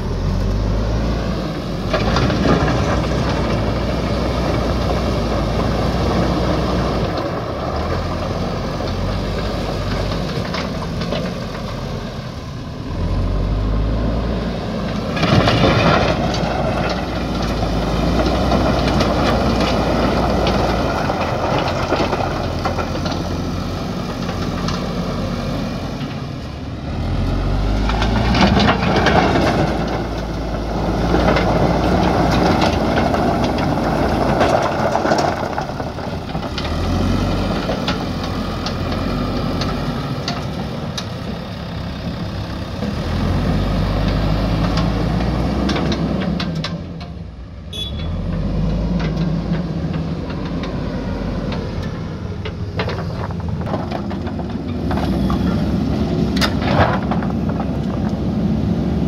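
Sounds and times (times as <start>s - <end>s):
diesel engine working hard: 0.0s - 59.0s.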